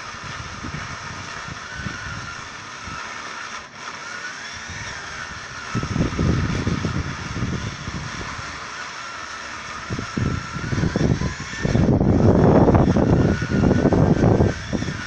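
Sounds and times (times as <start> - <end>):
distant chainsaw running: 0.0 - 15.0.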